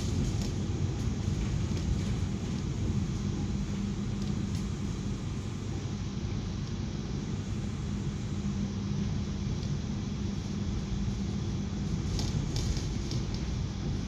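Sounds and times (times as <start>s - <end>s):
constant hum: 0.0s - 14.0s
train rumble: 0.0s - 14.0s.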